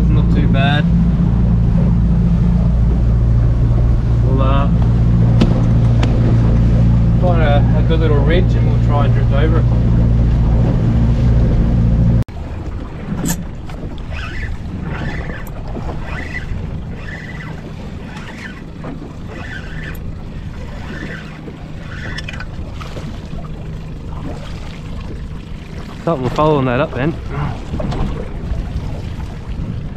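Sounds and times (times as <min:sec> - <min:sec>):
outboard motor idling: 0:00.0 - 0:29.9
outboard motor running: 0:00.0 - 0:29.9
water noise: 0:00.0 - 0:29.9
wind: 0:00.0 - 0:29.9.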